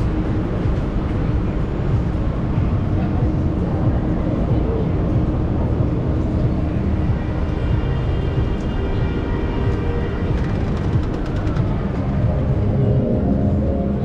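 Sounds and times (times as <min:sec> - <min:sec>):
crowd noise: 0:00.0 - 0:14.0
faint music: 0:00.0 - 0:14.0
traffic rumble: 0:00.0 - 0:14.0.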